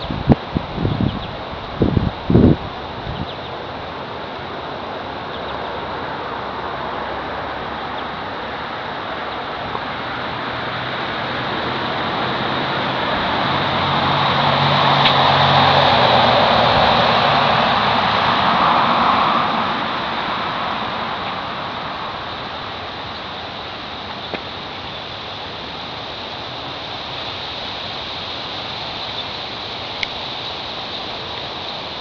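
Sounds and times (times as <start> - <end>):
outdoor hiss: 0.0 - 32.0
vehicle engine hum passing: 0.0 - 32.0.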